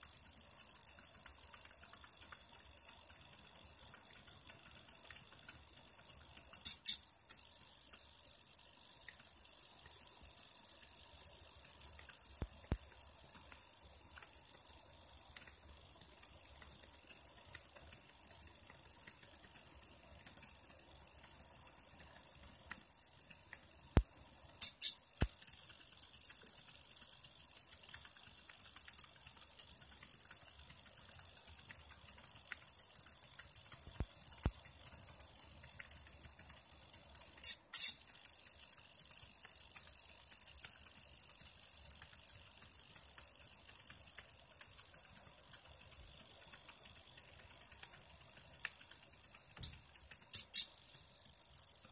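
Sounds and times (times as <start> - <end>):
sharp clicks: 0.0 - 8.1, 9.0 - 51.9
light irregular ticking: 0.0 - 51.9.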